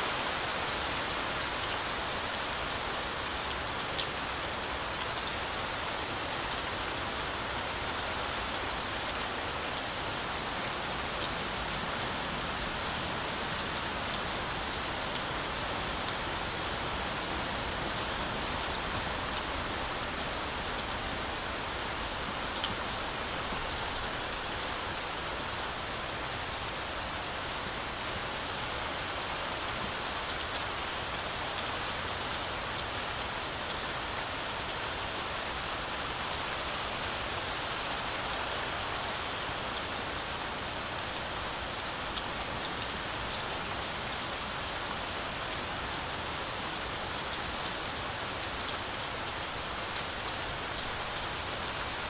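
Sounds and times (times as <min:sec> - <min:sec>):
heavy rain in trees: 0:00.0 - 0:52.0.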